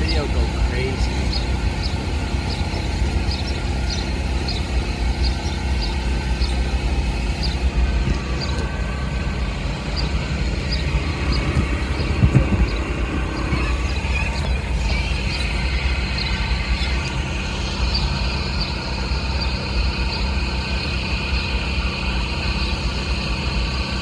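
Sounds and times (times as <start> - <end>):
train rumbling across bridge: 0.0 - 24.0.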